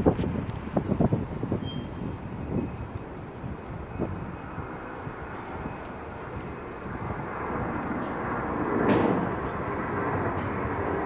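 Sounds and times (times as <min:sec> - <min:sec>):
airliner jet engine rush: 0:00.0 - 0:11.0.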